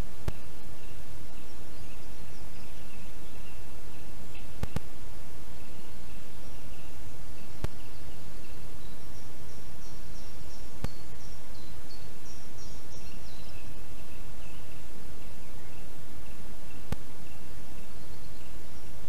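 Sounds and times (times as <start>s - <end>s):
faint bird chirps: 0.0s - 19.0s
forest ambience hiss: 0.0s - 19.0s.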